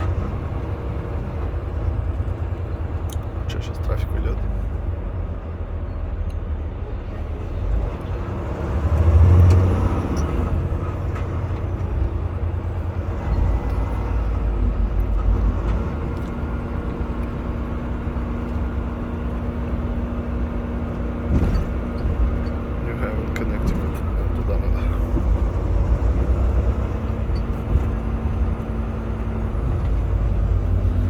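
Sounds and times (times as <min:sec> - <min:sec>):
road noise: 0:00.0 - 0:31.0
truck engine rumble: 0:00.0 - 0:31.0.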